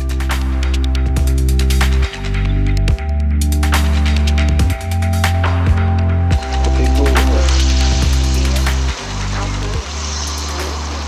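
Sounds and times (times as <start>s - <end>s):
music with deep bass and sharp beat: 0.0s - 11.0s.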